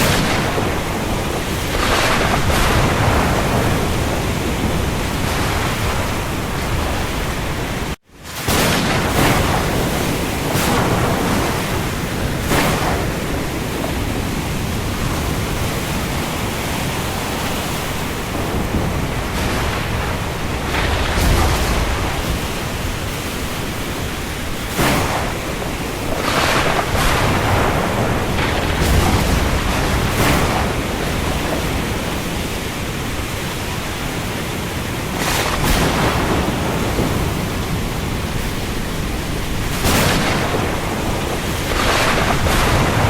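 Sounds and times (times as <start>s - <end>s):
heavy rain on sea: 0.0s - 43.0s
waves washing: 0.0s - 43.0s.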